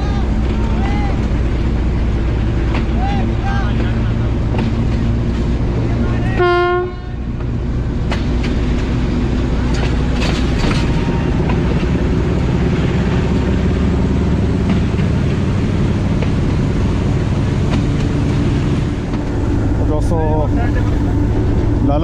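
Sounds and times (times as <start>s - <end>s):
locomotive engine drone: 0.0s - 22.0s.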